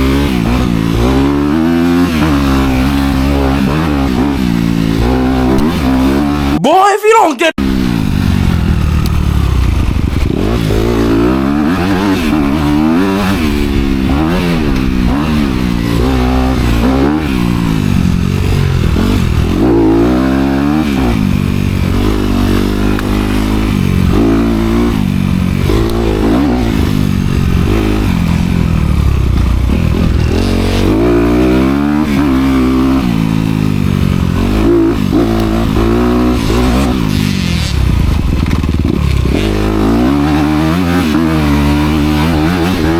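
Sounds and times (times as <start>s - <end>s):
dirt bike engine revving: 0.0s - 6.6s, 7.6s - 42.9s.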